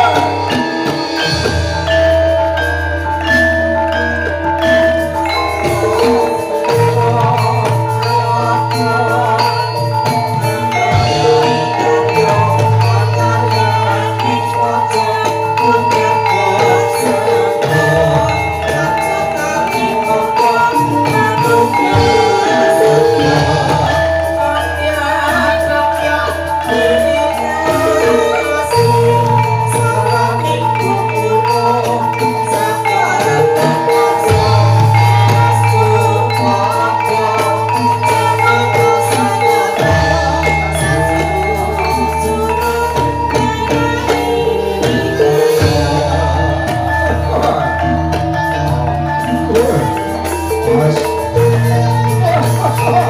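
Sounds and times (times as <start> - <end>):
gamelan music: 0.0 - 53.0
struck metallophones ringing: 0.0 - 53.0.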